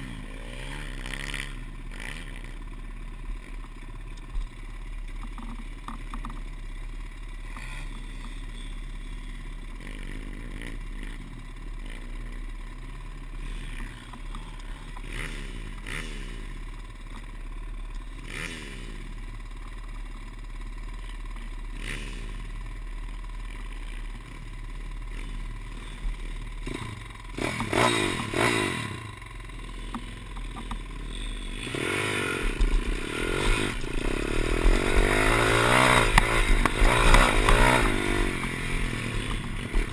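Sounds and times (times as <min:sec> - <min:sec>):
distant pit bike revving: 0:00.0 - 0:39.9
pit bike moving over rough ground: 0:00.0 - 0:39.9.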